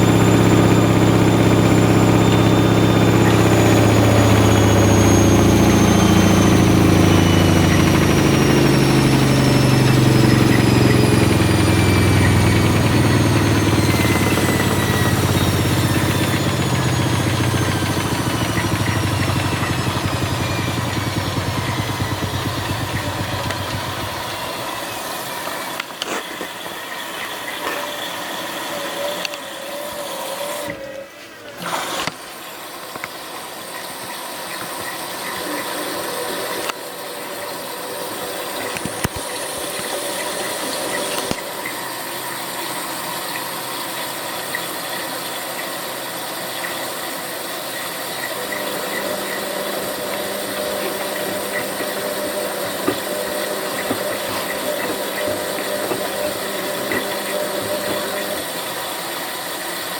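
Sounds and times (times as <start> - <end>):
washing machine motor humming: 0.0 - 26.0, 34.8 - 44.7, 45.3 - 59.9.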